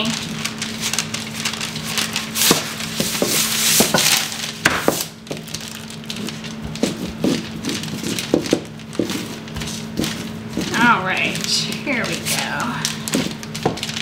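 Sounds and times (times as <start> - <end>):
paper crinkling and rustling: 0.0 - 14.0
rolling pin over dough: 0.9 - 14.0.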